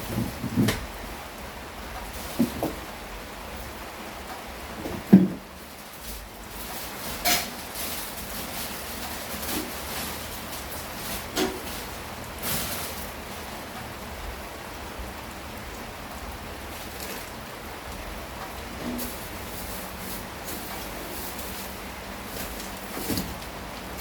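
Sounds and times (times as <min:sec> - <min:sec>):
heavy rain falling: 0:00.0 - 0:24.0
sharp rain taps: 0:00.0 - 0:24.0.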